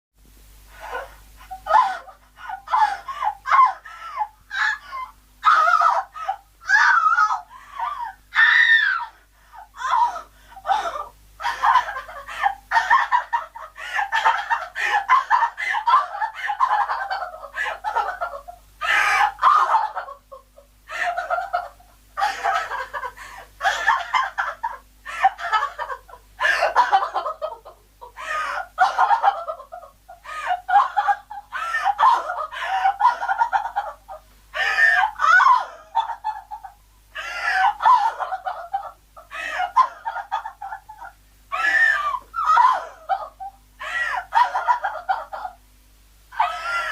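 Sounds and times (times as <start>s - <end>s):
woman crying hysterically: 0.8s - 45.6s, 46.3s - 46.9s.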